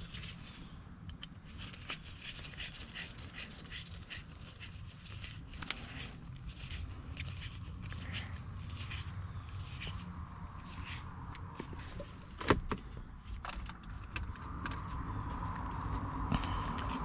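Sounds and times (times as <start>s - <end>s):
lock parts clicking and scraping: 0.0s - 14.9s
steady low hum: 0.0s - 17.0s.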